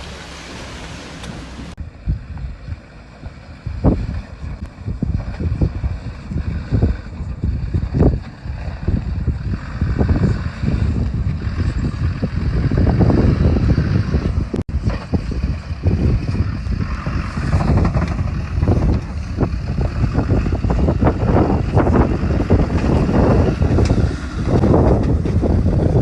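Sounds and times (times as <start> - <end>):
diesel engine running: 0.0 - 26.0
wind buffeting microphone: 0.0 - 26.0.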